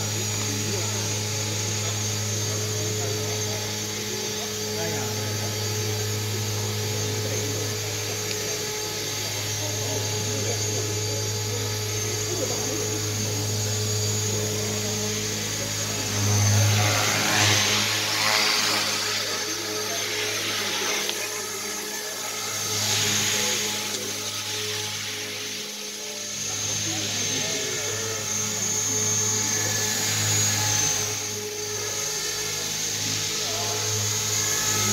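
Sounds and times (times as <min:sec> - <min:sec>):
model helicopter motor drone: 0:00.0 - 0:34.9.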